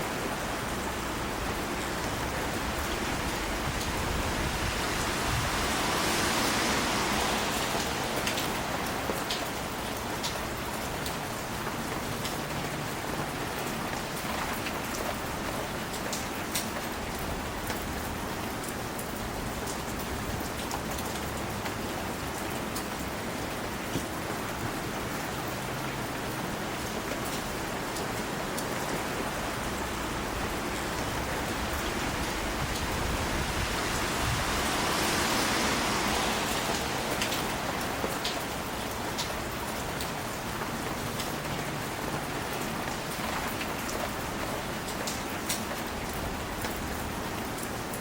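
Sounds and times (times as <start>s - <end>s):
steady rain hissing: 0.0s - 48.0s
raindrops dripping from leaves: 0.1s - 48.0s.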